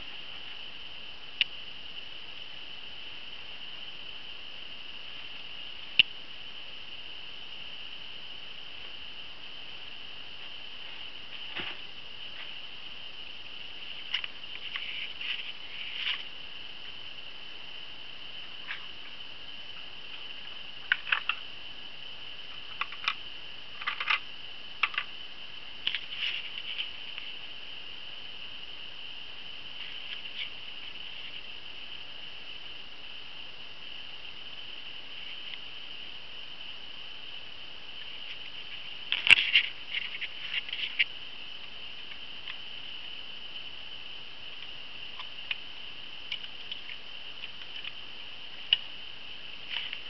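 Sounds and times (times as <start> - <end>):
camcorder high-pitched whine: 0.0 - 50.0
high-pitched hiss: 0.0 - 50.0.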